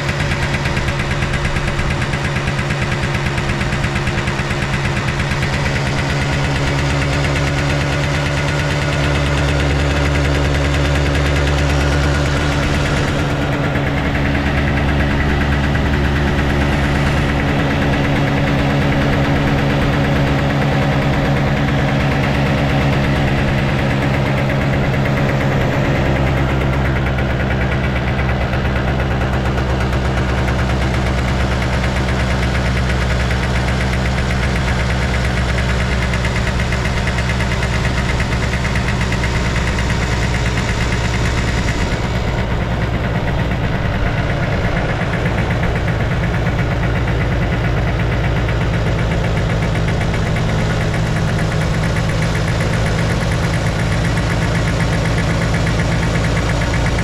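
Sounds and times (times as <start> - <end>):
scooter engine idling: 0.0 - 57.0.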